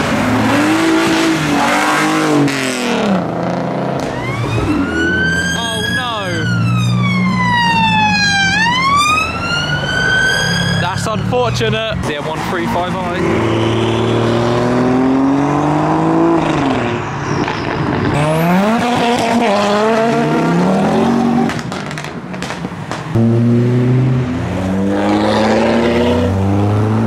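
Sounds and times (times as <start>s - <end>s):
loud engine: 0.0s - 22.1s, 23.1s - 27.0s
car engines revving hard: 0.0s - 27.0s.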